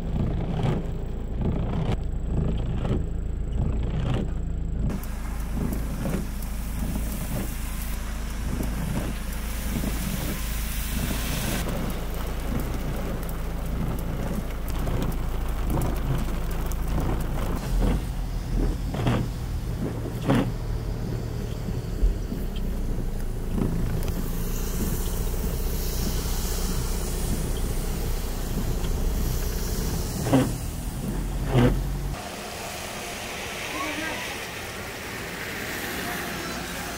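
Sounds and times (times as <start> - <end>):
low vehicle rumble: 0.0 - 36.9
tyres hissing through water: 4.9 - 36.9.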